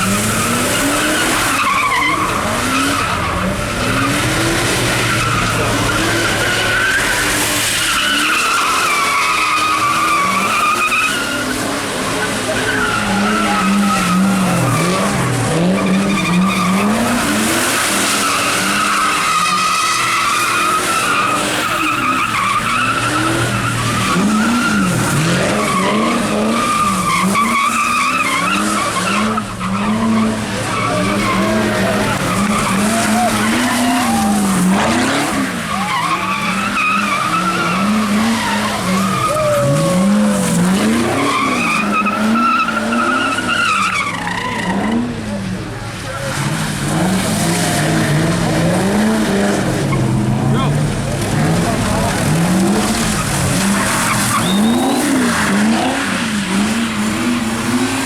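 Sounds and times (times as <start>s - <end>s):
tyres squealing: 0.0s - 45.1s, 49.8s - 58.0s
car engine revving: 0.0s - 58.0s.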